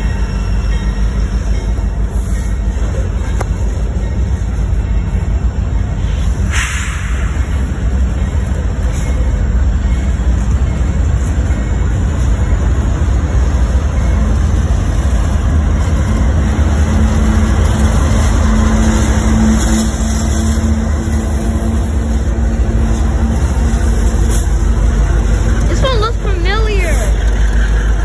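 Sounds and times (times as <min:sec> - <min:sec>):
diesel locomotive hum: 0:00.0 - 0:28.0
train wheels rumbling on rails: 0:00.0 - 0:28.0.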